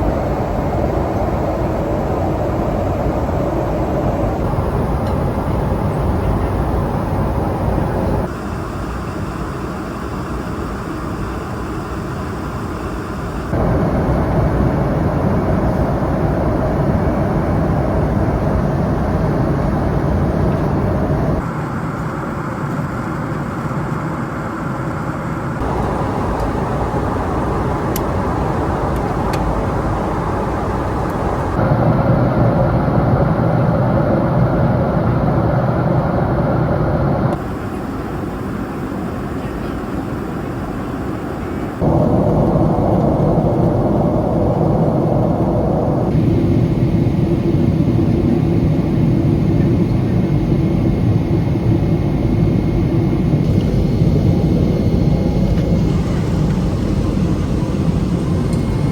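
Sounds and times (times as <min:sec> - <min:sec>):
airliner cabin noise: 0:00.0 - 0:58.9.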